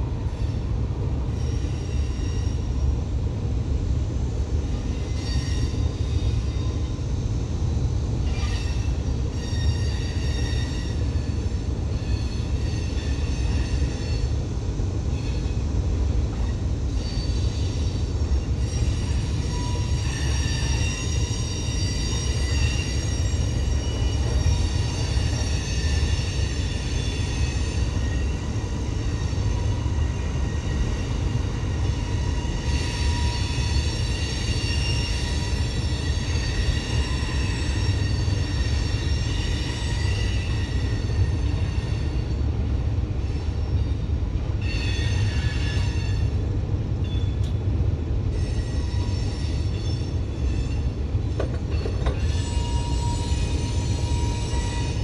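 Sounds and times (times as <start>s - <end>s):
freight train rumbling: 0.0s - 55.0s
train wheels squealing: 0.2s - 3.0s, 4.0s - 55.0s.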